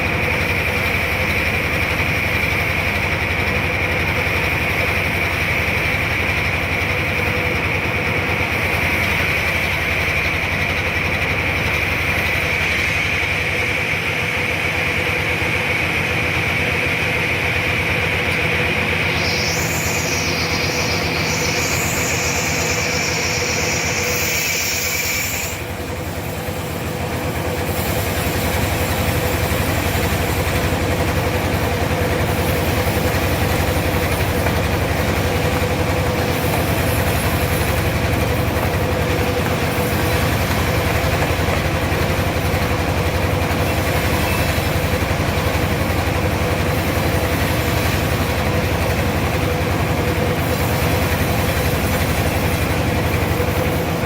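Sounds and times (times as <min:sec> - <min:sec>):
high machine whine: 0:00.0 - 0:54.0
sawmill machinery running: 0:00.0 - 0:54.0.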